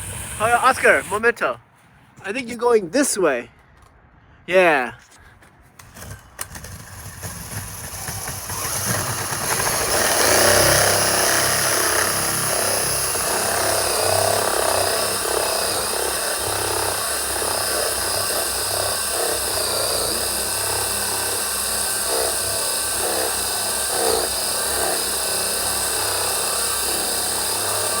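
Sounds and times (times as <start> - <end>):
power drill with hole saw grinding: 0.0 - 1.4, 5.8 - 28.0.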